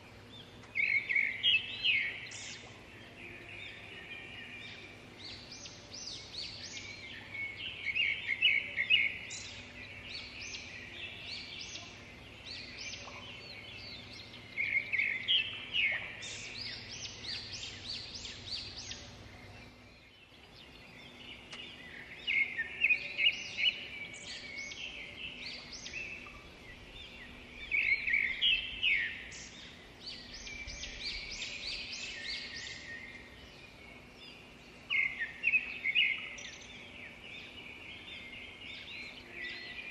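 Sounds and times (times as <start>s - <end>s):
faint steady background noise: 0.0s - 39.9s
songbirds chirping and trilling: 0.0s - 39.9s.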